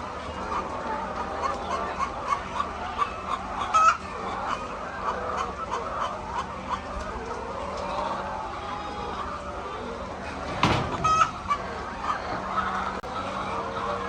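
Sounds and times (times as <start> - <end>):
flock of chickens clucking: 0.0 - 14.0.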